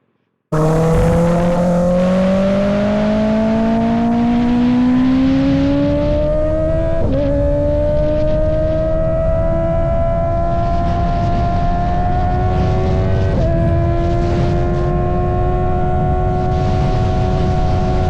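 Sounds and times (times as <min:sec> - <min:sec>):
motorcycle engine accelerating: 0:00.5 - 0:18.0.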